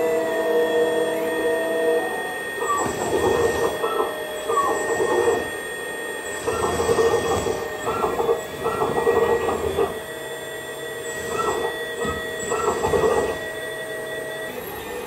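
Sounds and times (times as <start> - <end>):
toy excavator hydraulic whine: 0.0 - 15.0.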